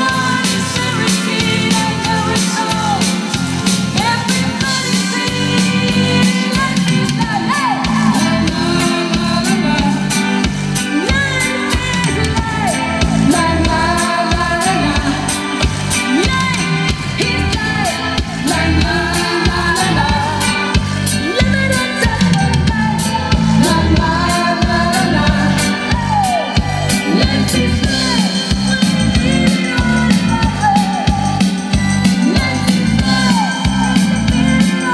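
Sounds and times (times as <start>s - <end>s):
drum kit steady beat: 0.0s - 34.9s
electric guitar: 0.0s - 34.9s
woman singing: 0.0s - 34.9s.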